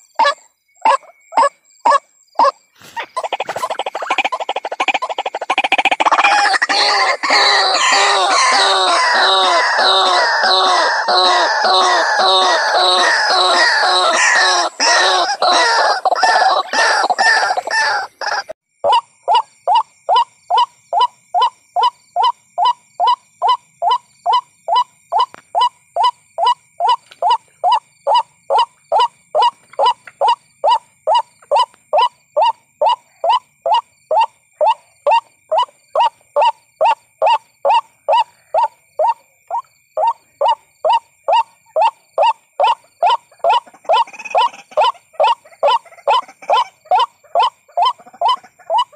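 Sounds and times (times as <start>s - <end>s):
waterhen calls: 0.0s - 48.9s.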